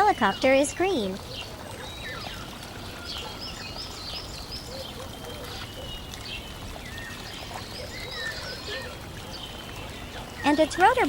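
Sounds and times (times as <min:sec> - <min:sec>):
running water rushing: 0:00.0 - 0:11.0
small birds chirping: 0:00.1 - 0:11.0.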